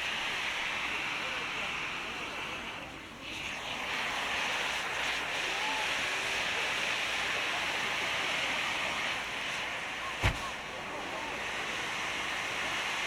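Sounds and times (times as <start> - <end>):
fireworks spraying sparks hissing: 0.0 - 13.0.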